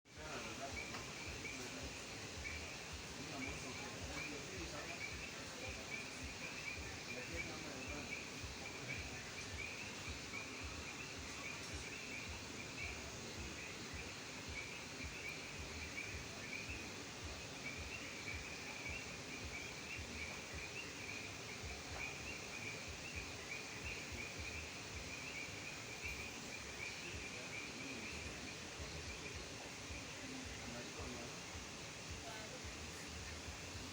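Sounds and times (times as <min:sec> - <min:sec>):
frogs trilling: 0:00.2 - 0:33.9.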